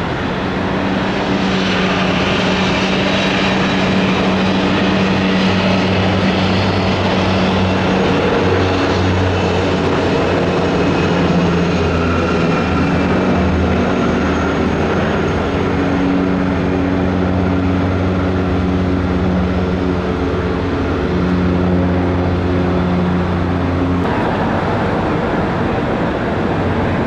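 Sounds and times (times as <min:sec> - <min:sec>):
turboprop engines roaring: 0:00.0 - 0:27.0.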